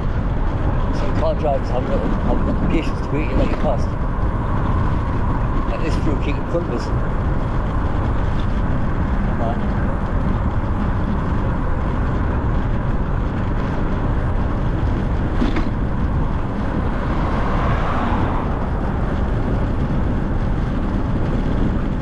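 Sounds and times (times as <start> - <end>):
road traffic noise: 0.0 - 22.0
wind rumbling on microphone: 0.0 - 22.0.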